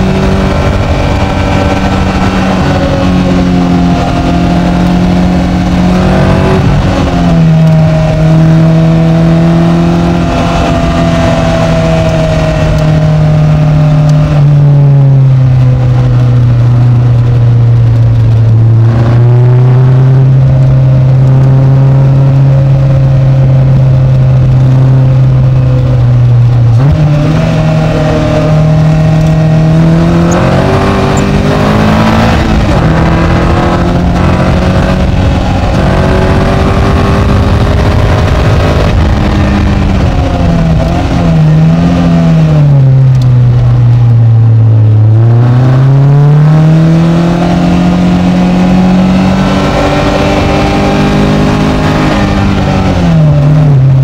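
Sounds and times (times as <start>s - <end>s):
car engine while driving: 0.0s - 54.0s.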